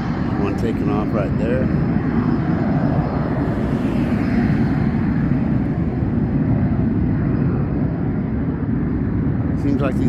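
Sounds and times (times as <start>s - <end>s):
small airplane engine rumble: 0.0s - 10.0s.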